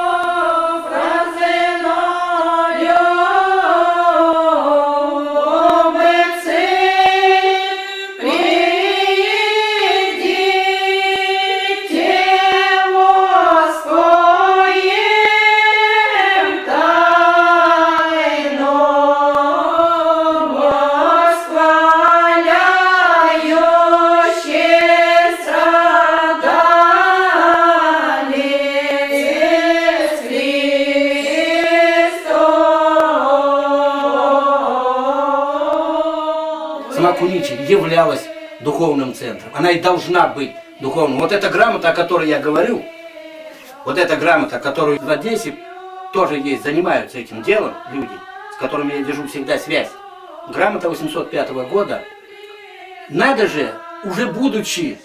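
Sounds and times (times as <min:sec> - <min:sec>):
women's choir chanting: 0:00.0 - 0:55.0.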